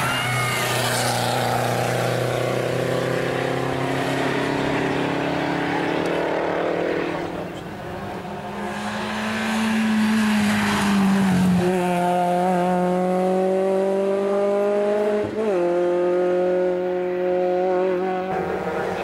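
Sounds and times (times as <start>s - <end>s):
racing car engine revving: 0.2s - 19.0s.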